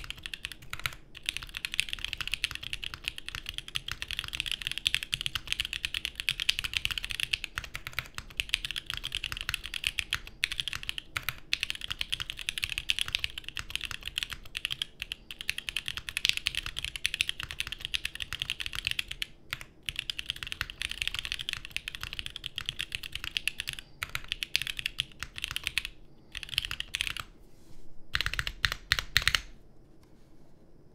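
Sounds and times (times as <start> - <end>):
fast typing on mechanical keyboard: 0.0 - 27.3, 28.1 - 29.5.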